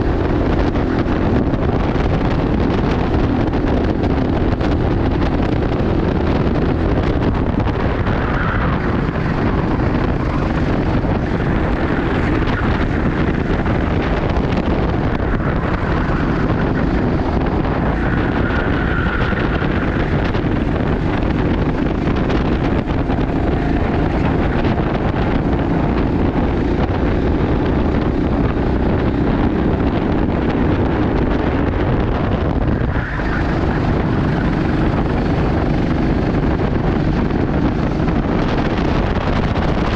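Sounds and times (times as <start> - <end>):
kart engine roar: 0.0 - 39.9
wind rush on microphone: 0.0 - 39.9.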